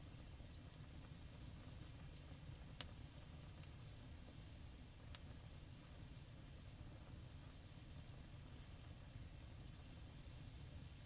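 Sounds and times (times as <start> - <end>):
campfire rumble: 0.0 - 11.0
faint hiss: 0.0 - 11.0.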